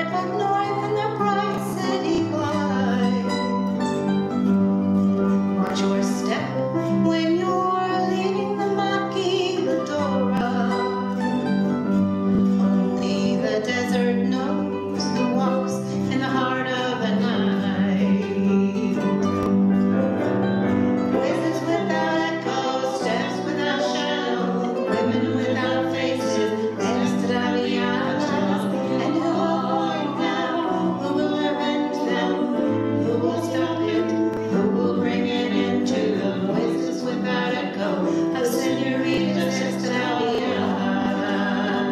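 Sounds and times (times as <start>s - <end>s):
acoustic guitars playing: 0.0s - 41.9s
autoharp strumming: 0.0s - 41.9s.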